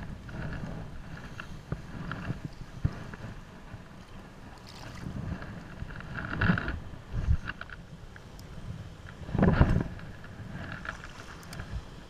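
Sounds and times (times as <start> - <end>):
wind buffeting the microphone: 0.0 - 12.0
water lapping: 0.3 - 12.0.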